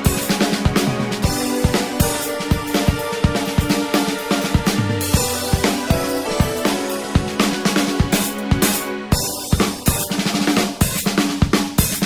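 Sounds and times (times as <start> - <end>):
instrumental band music: 0.0 - 12.0.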